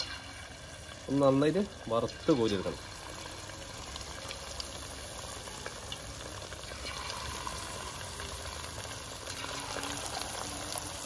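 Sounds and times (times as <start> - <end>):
food sizzling in hot oil: 0.0 - 11.0
oil popping: 0.0 - 11.0.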